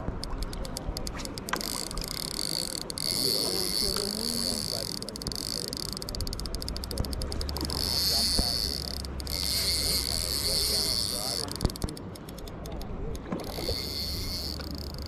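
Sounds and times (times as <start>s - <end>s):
fishing reel whirring and clicking: 0.0s - 15.0s.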